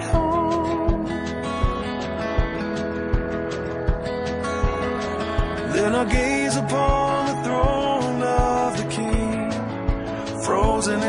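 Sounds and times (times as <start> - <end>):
guitar: 0.0 - 11.0.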